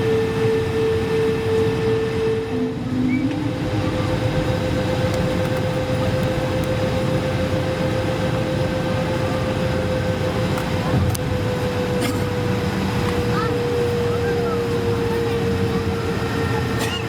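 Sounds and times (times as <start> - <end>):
aircraft cabin engine rumble: 0.0 - 17.0
steady hum: 0.0 - 17.0.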